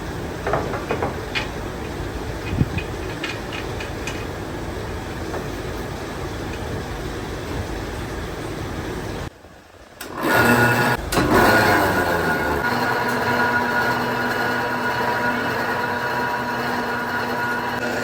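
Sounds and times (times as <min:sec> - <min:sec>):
factory machinery running: 0:00.0 - 0:09.3, 0:10.0 - 0:18.0
machine humming: 0:00.0 - 0:09.3, 0:10.0 - 0:18.0.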